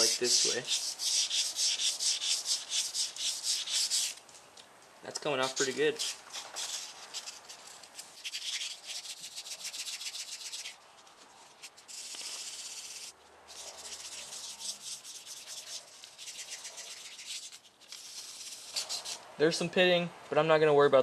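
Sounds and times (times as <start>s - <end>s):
sandpaper rubbing on metal tube: 0.0s - 4.2s, 5.4s - 10.8s, 11.4s - 19.2s.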